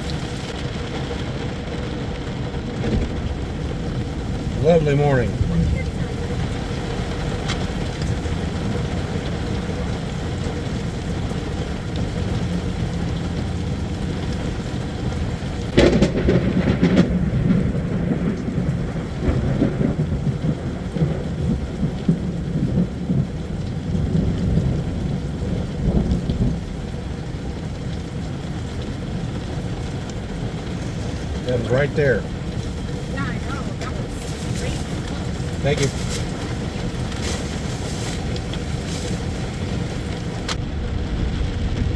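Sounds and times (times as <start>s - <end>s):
steady rain: 0.0s - 41.9s
loud thunder clap rumbling: 2.1s - 41.9s.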